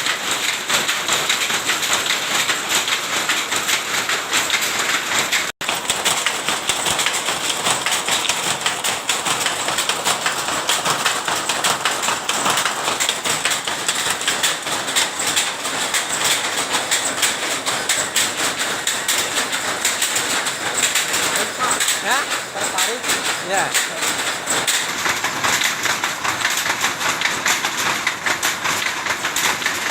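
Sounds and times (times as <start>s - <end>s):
cloth-making machine clattering: 0.0s - 29.9s.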